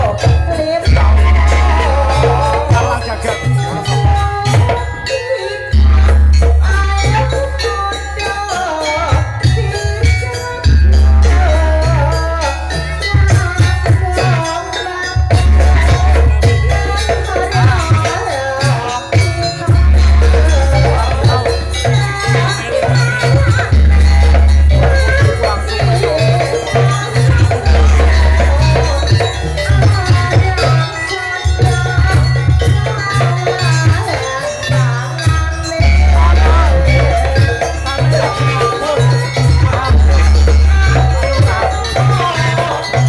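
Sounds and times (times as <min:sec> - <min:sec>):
rattling percussion: 0:00.0 - 0:43.0
wavering melodic lead line: 0:00.0 - 0:43.0.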